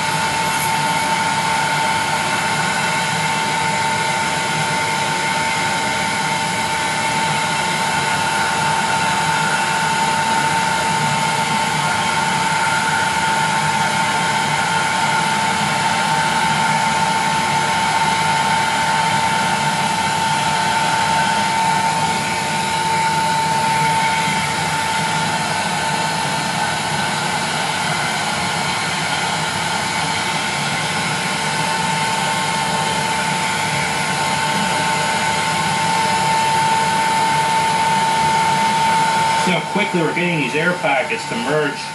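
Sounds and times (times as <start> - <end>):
fan whine: 0.0 - 41.9
heat gun blowing air: 0.0 - 41.9.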